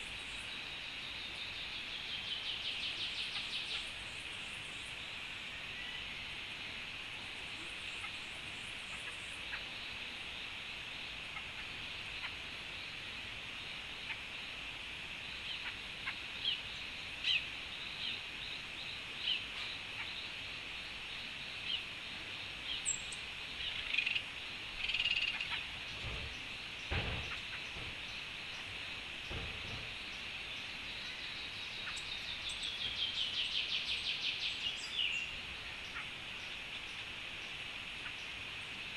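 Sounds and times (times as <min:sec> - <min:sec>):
forest background hiss: 0:00.0 - 0:38.9.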